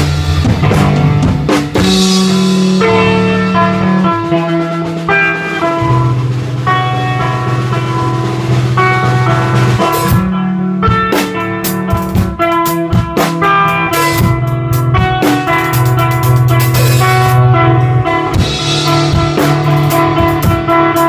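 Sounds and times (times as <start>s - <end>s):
drum kit playing: 0.0s - 21.0s
electric guitar: 0.0s - 21.0s.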